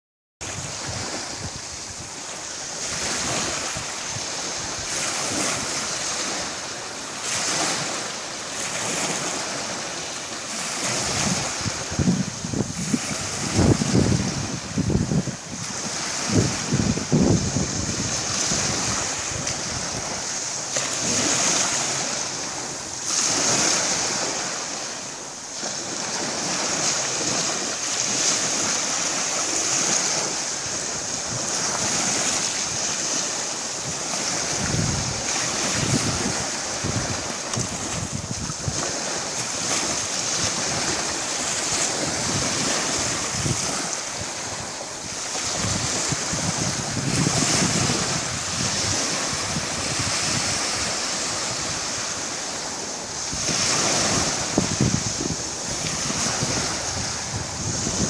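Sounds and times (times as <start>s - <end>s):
waves washing on shore: 0.4s - 58.0s.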